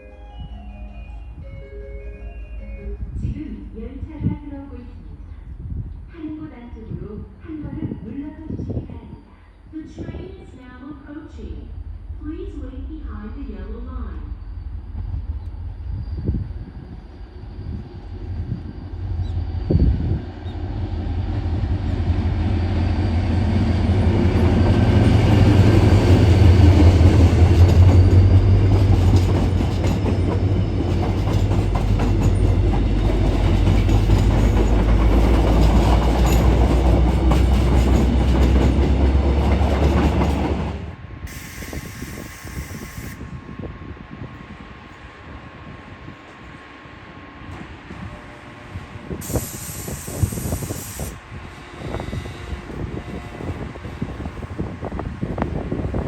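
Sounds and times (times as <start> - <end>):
train passing: 0.0 - 8.2, 9.1 - 56.0.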